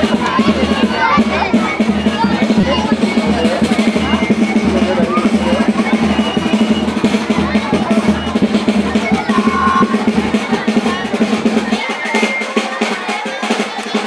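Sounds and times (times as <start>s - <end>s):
bass drum beating: 0.0s - 11.9s
brief high notes: 0.0s - 12.8s
snare drum beating: 0.0s - 14.0s.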